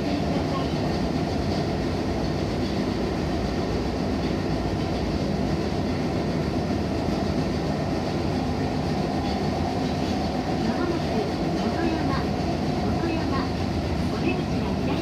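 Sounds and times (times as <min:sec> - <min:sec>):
train running from inside: 0:00.0 - 0:15.0.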